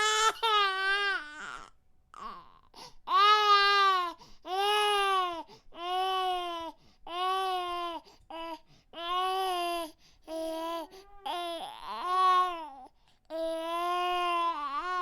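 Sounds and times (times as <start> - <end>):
infant crying: 0.0 - 15.0.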